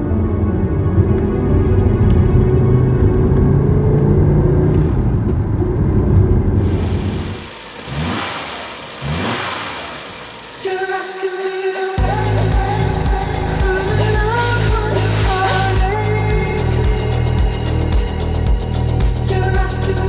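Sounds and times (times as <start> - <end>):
car engine revving: 0.7 - 20.0.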